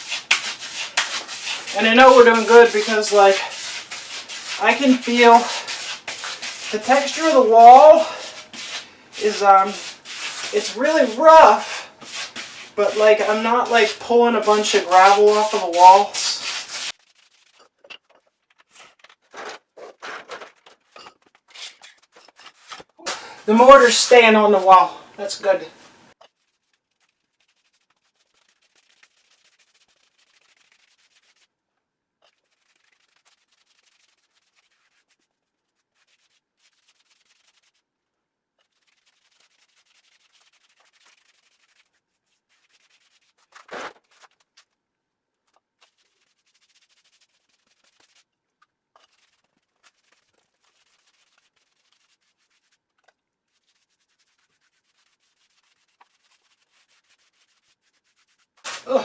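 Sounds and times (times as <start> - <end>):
paint brush scrubbing masonry wall: 0.0 - 24.9, 25.9 - 31.6, 32.2 - 37.9, 38.6 - 44.8, 45.4 - 59.0.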